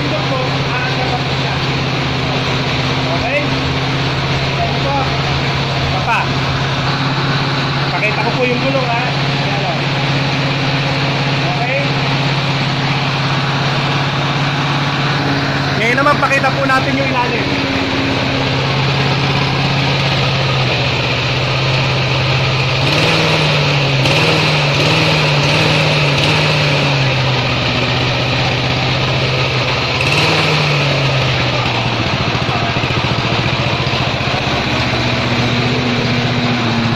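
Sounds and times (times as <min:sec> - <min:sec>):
lawn mower engine running: 0:00.0 - 0:36.9.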